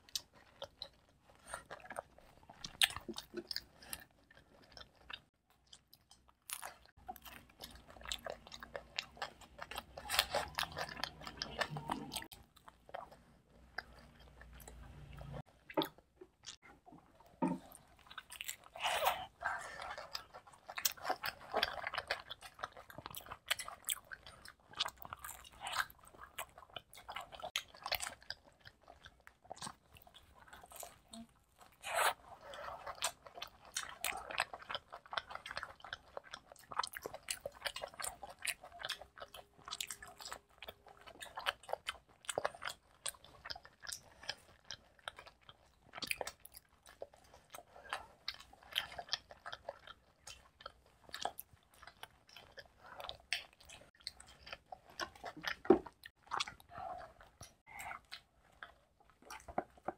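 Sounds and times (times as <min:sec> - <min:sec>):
people chewing pizza: 0:00.0 - 0:59.9.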